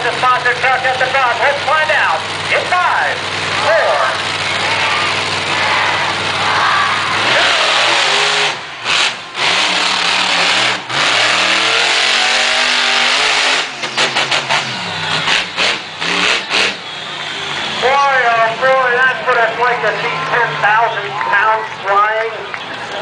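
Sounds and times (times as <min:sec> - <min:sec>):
truck engine revving hard: 0:00.0 - 0:21.0.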